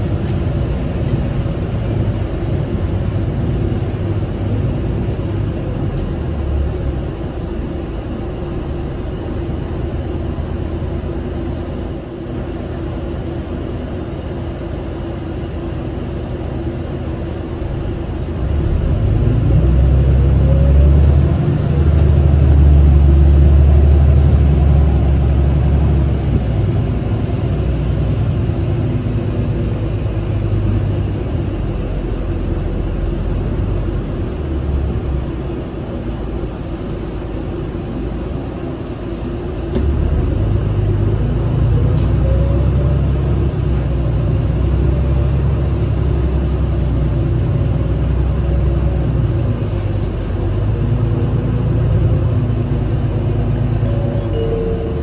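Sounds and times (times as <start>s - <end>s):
bus diesel engine: 0.0s - 55.0s
road noise: 0.0s - 55.0s.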